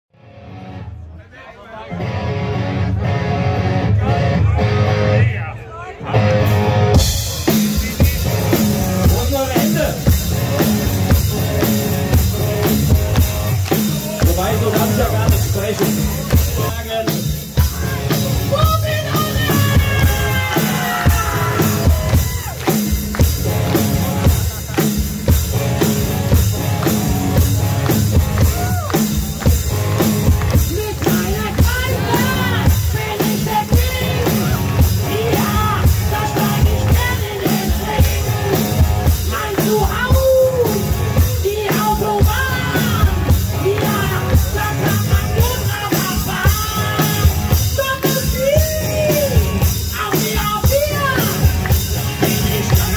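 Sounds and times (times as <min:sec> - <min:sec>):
drum kit and band: 0:01.9 - 0:52.9
man singing rock song: 0:03.6 - 0:24.8, 0:25.5 - 0:52.9.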